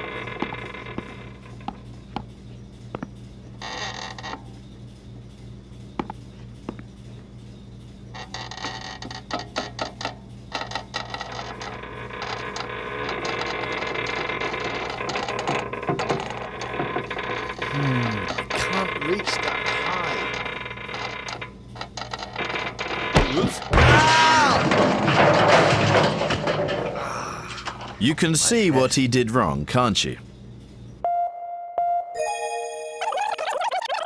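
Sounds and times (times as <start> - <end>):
steady low hum: 0.0 - 31.2.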